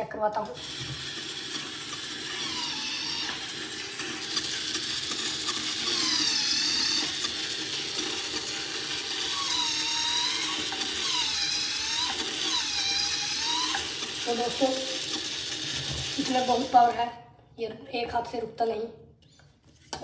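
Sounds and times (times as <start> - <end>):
electric motor gears whining: 0.6 - 17.0.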